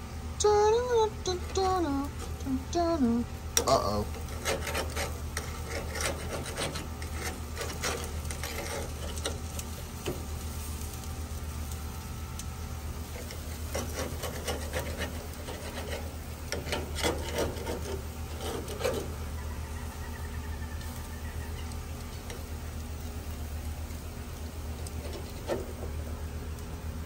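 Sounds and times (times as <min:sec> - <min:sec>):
steady low hum: 0:00.0 - 0:27.0
tongs scraping grill grates: 0:00.4 - 0:27.0.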